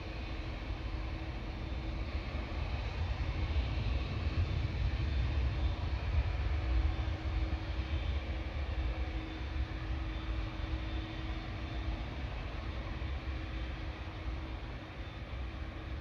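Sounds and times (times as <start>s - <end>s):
jet engine rumble during takeoff: 0.0s - 16.0s.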